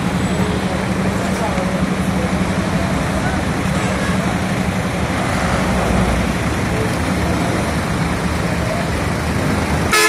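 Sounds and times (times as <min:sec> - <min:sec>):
bus engines idling: 0:00.0 - 0:10.0
traffic noise: 0:00.0 - 0:10.0.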